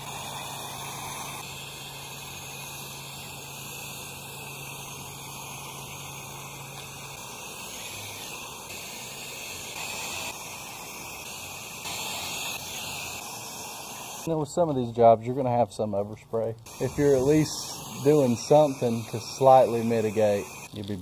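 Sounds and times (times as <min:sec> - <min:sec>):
pressure washer spray hissing: 0:00.0 - 0:15.9, 0:16.6 - 0:21.0.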